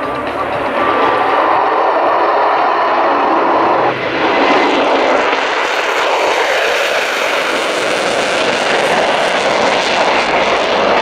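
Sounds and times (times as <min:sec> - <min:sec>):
jet engine roaring in afterburner: 0:00.0 - 0:11.0.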